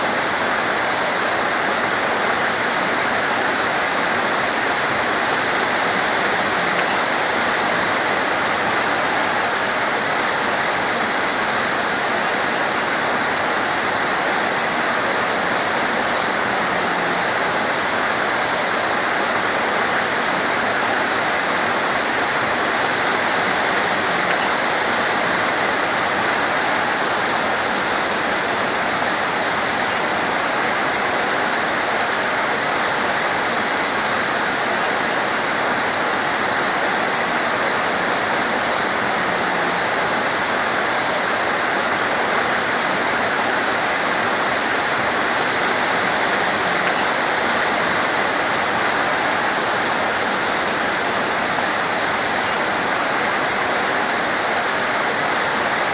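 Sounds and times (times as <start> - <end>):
heavy torrential rain: 0.0 - 55.9.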